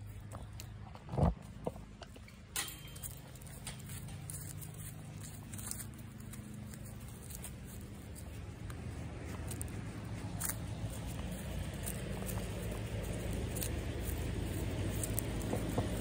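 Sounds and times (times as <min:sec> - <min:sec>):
footsteps on gravel: 0:00.0 - 0:16.0
steady low hum: 0:00.0 - 0:16.0.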